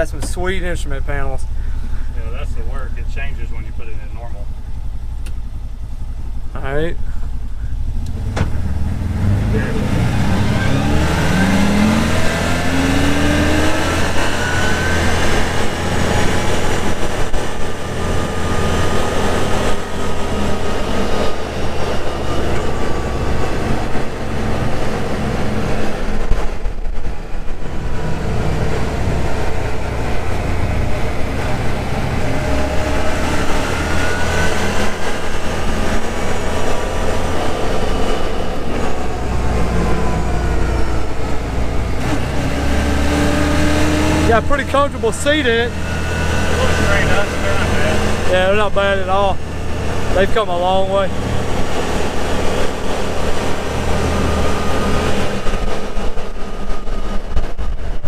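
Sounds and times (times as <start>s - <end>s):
vehicle engine accelerating: 0.0s - 58.0s.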